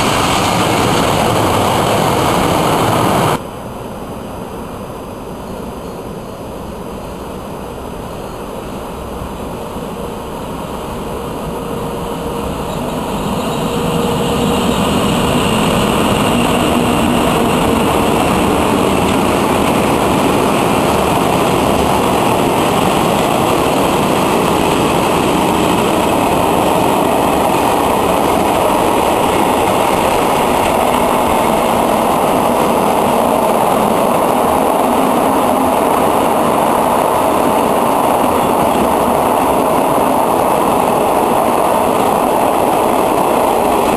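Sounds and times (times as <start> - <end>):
train wheels on rails: 0.0 - 43.9.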